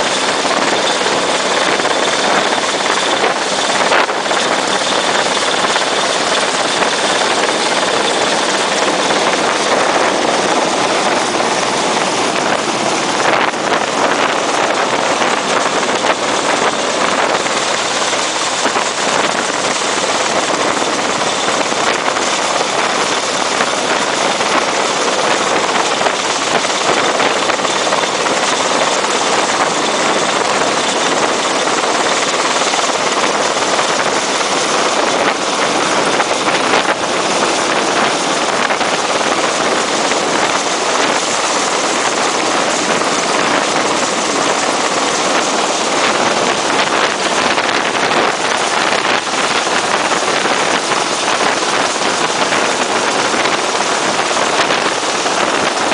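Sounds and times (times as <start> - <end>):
helicopter hovering: 0.0 - 55.9
wind on microphone: 0.0 - 55.9.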